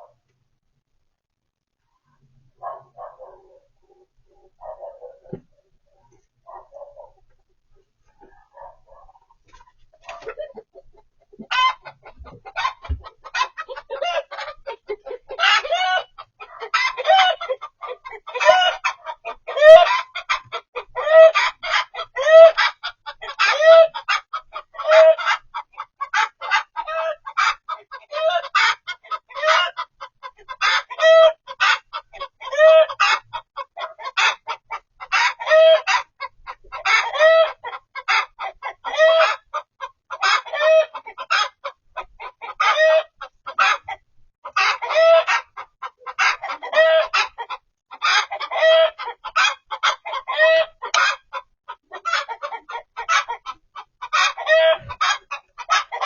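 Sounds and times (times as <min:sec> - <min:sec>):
chicken clucking: 0:01.9 - 0:56.0.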